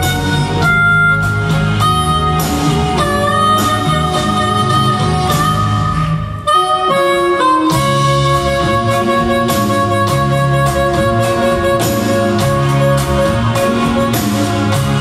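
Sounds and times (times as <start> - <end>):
harmonica melody: 0.0 - 15.0
live band playing: 0.0 - 15.0.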